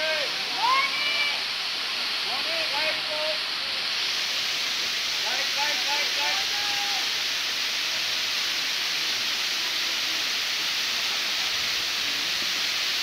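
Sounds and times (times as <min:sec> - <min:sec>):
waterfall hissing: 0:00.0 - 0:13.0.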